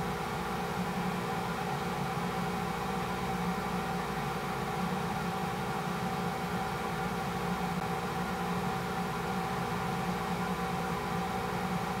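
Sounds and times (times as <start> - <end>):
steady multi-tone hum: 0.0 - 12.0.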